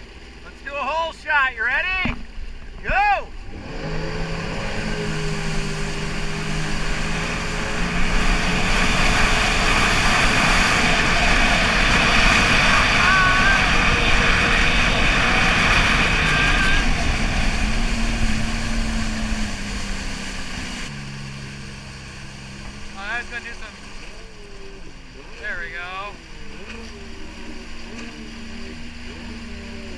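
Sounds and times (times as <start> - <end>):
jet ski engines running: 0.0 - 29.9
rush of spray and wind: 1.8 - 29.9.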